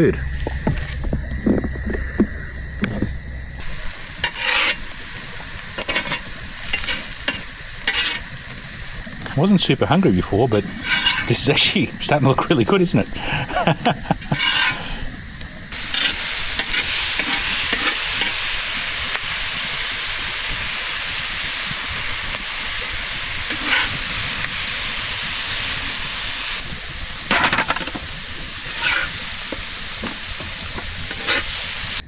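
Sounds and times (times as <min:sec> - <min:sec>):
food sizzling on a steel plate: 0:03.6 - 0:32.0.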